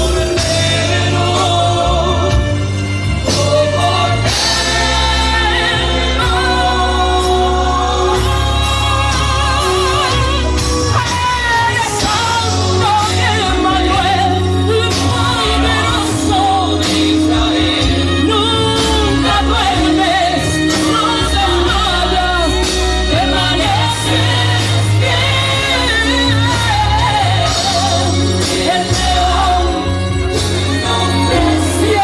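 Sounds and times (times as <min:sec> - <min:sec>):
person singing lead vocals: 0:00.0 - 0:32.0
worship band with steady bass: 0:00.0 - 0:32.0.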